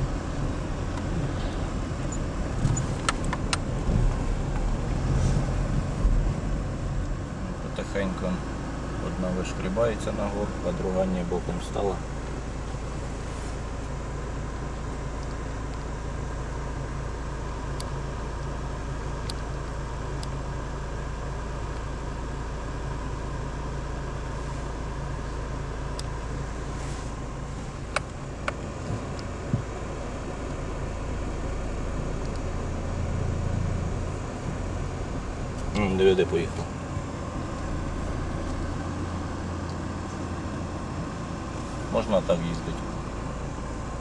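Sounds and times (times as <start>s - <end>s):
car engine hum inside cabin: 0.0s - 44.0s.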